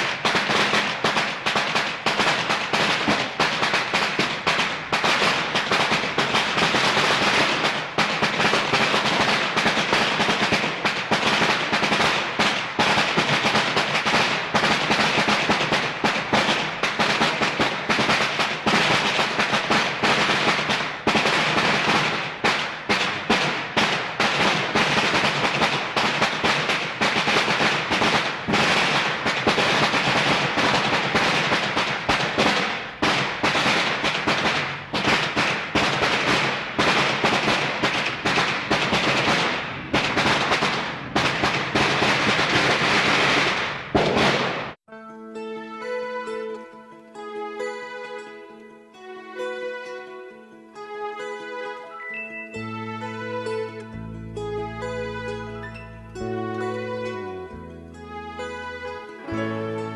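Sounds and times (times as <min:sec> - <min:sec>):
fireworks crackling and popping: 0:00.0 - 0:44.9, 0:54.7 - 0:59.8.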